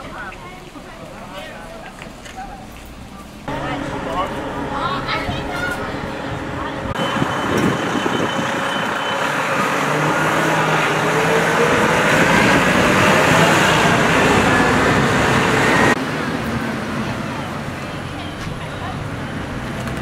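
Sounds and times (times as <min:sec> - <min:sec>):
coach engine pulling away: 0:03.3 - 0:20.0.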